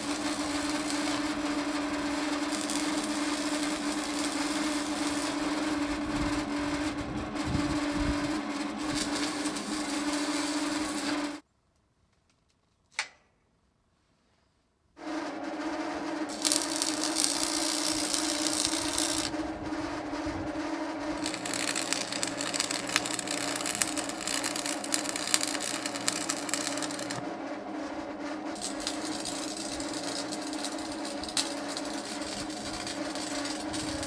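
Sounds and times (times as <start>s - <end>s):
welding arc crackling: 0.0s - 11.4s, 15.0s - 34.0s.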